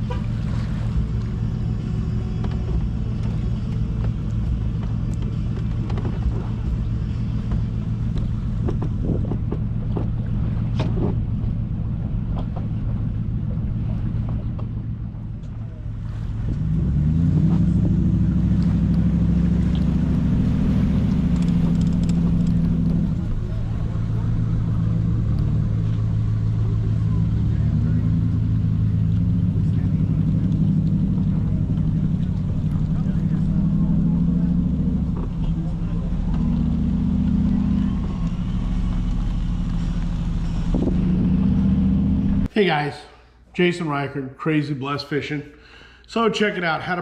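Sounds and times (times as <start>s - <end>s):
engine speeding up: 0.0s - 42.5s.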